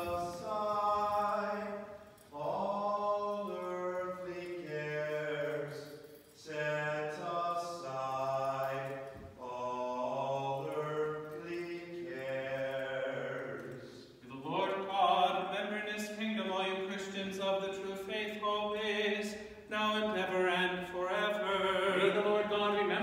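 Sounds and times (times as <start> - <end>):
man chanting a hymn: 0.0 - 23.0.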